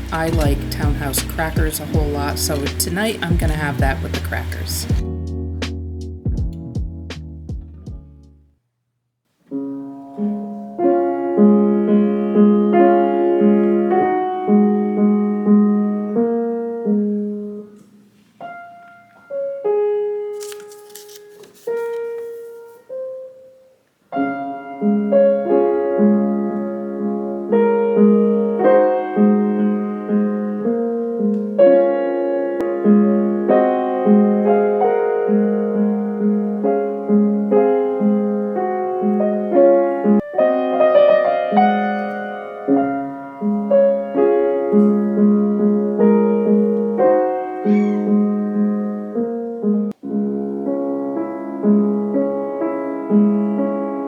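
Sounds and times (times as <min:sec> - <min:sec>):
solo piano: 0:00.0 - 0:08.4, 0:09.4 - 0:54.0.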